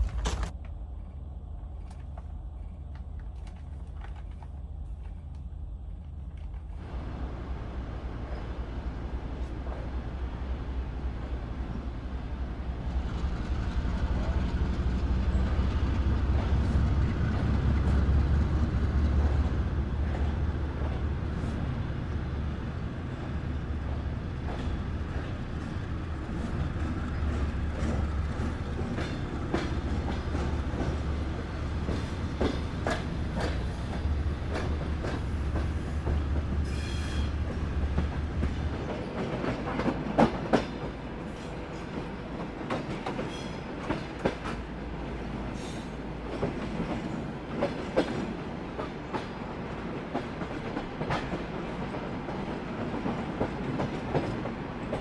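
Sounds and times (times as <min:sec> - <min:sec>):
rail clicks: 0:00.0 - 0:55.0
train rumbling on rails: 0:00.0 - 0:55.0.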